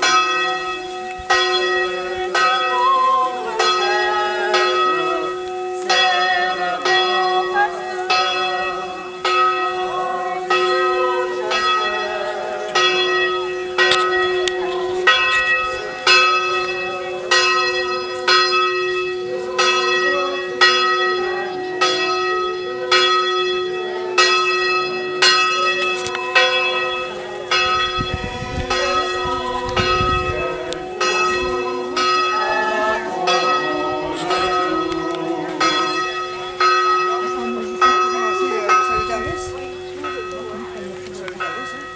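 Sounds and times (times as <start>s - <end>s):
church bell ringing: 0.0s - 41.9s.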